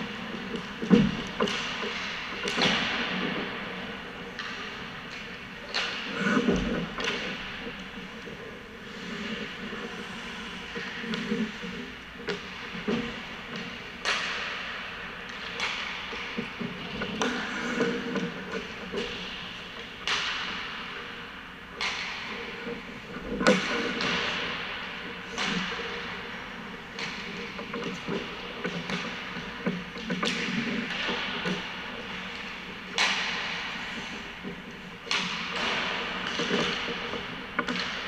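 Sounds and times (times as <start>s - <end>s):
sticks cracking on pucks: 0.0s - 3.6s, 4.3s - 21.0s, 21.8s - 38.0s
pucks hitting boards: 0.0s - 8.1s, 8.8s - 19.4s, 20.0s - 20.9s, 21.8s - 22.4s, 23.3s - 38.0s
skates scraping on ice: 0.0s - 21.2s, 21.8s - 38.0s.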